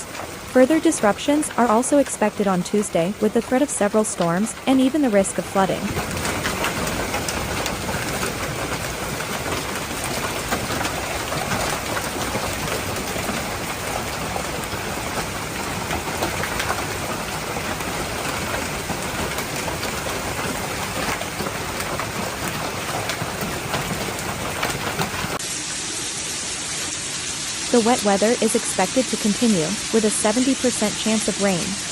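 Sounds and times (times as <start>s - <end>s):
heavy rain pelting a surface: 0.0s - 31.9s.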